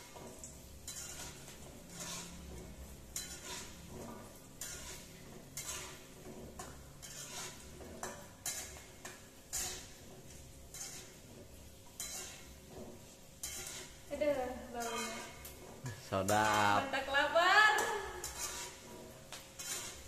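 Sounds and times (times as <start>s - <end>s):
metal spatula scraping a wok: 0.0s - 17.1s, 17.7s - 20.0s
food frying sizzle: 0.0s - 20.0s.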